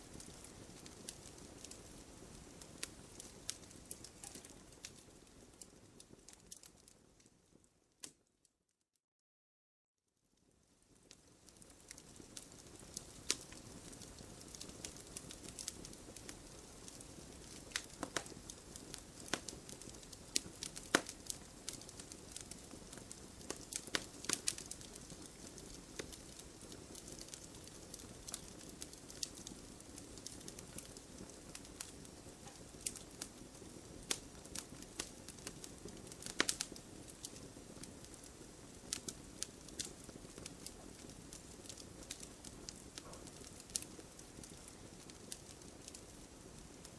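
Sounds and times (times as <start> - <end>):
campfire crackling: 0.0 - 8.2, 10.8 - 46.9.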